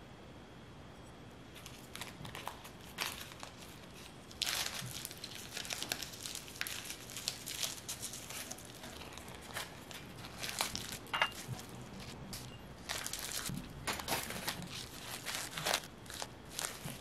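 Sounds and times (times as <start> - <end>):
dried seaweed crackling: 1.5 - 17.0.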